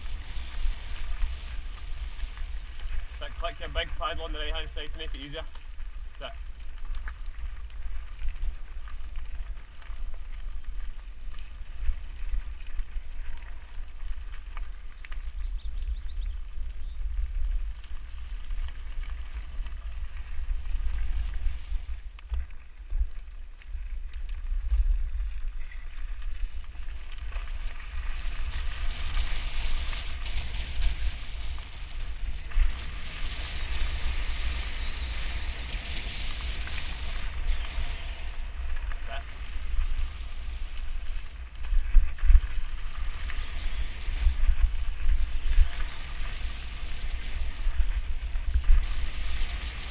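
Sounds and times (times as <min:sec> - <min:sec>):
tyres rolling over gravel: 0:00.0 - 0:49.9
wind rumbling on microphone: 0:00.0 - 0:49.9.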